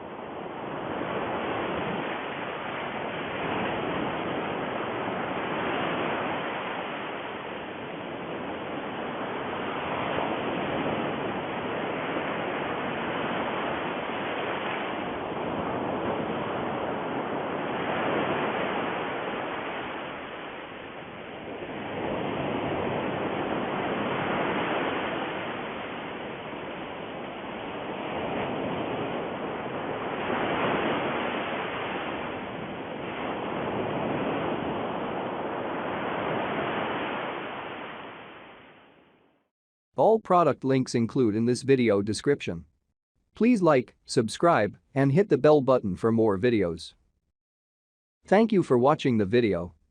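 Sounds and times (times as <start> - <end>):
ocean waves rushing: 0.0 - 39.0, 43.4 - 46.8.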